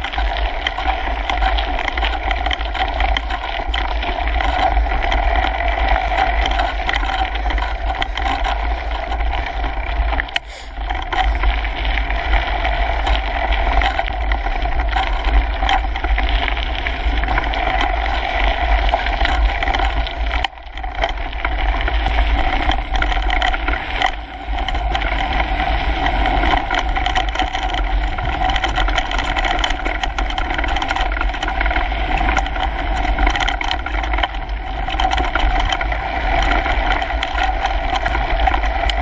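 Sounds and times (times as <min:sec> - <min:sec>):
bike rattling and knocking: 0:00.0 - 0:39.0
bike tyres on gravel: 0:00.0 - 0:39.0.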